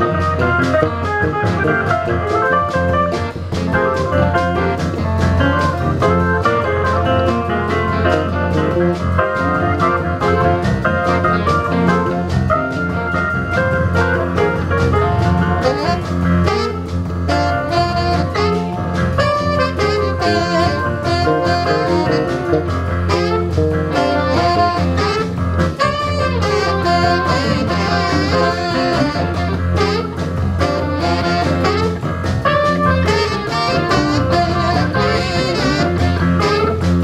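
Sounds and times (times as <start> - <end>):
saxophone lead: 0.0 - 37.0
soul-jazz band playing: 0.0 - 37.0.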